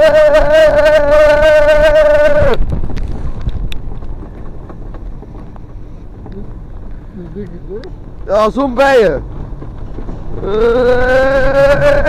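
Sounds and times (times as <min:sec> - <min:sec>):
wind on microphone: 0:00.0 - 0:08.4, 0:09.2 - 0:12.0
roller coaster rumbling on track: 0:00.0 - 0:12.0.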